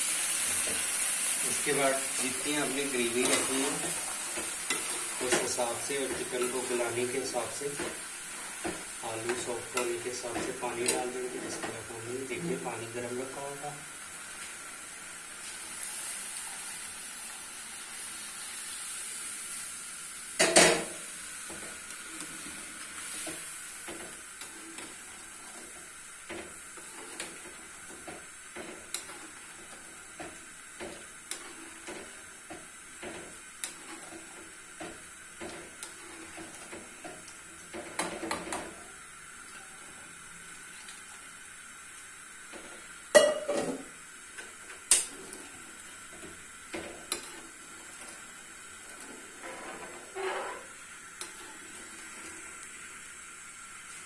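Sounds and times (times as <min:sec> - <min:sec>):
steady sizzling hiss: 0:00.0 - 0:54.0.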